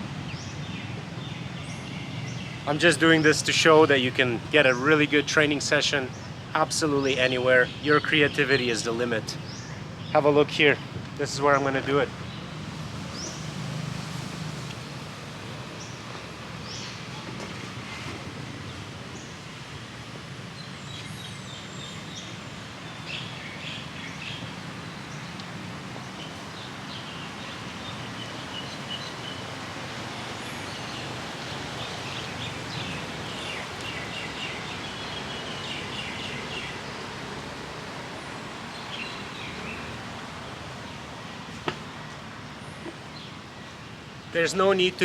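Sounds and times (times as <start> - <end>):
outdoor background noise: 0.0 - 45.0
small birds chirping: 0.2 - 13.8, 14.6 - 45.0.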